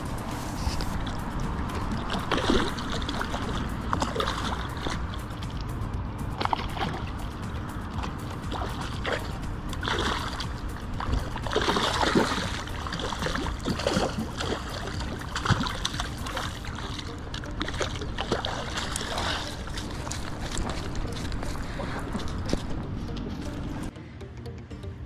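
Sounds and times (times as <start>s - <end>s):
background music: 0.0s - 25.0s
fish splashing in water: 0.2s - 5.6s, 6.3s - 22.7s.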